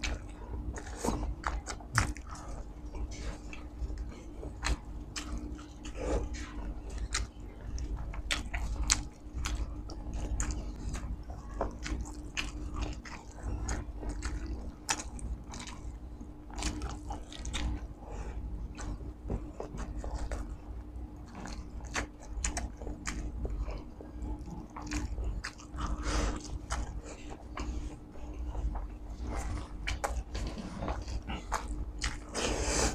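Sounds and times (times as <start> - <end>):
person chewing with lip smacks: 0.0 - 32.9.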